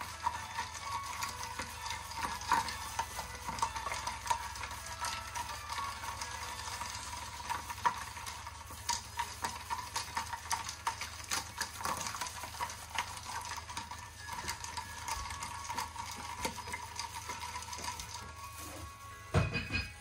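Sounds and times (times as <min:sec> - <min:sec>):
ice cubes clinking against glass: 0:00.0 - 0:20.0.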